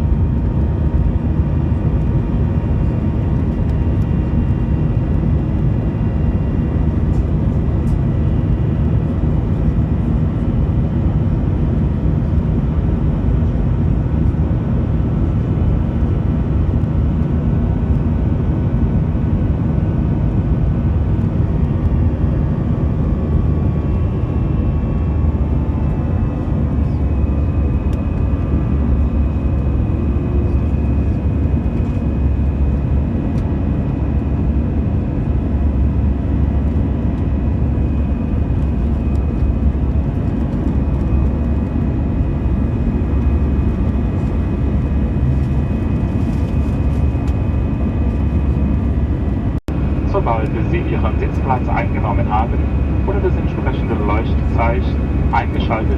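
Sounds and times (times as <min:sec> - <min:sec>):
jet engine and airflow rumble: 0:00.0 - 0:55.9.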